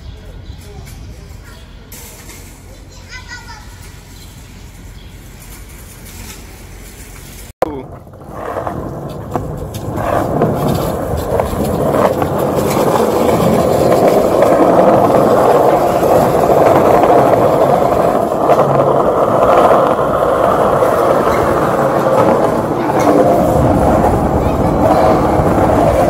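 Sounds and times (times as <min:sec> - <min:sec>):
small wheels rolling on concrete: 0:00.0 - 0:26.0.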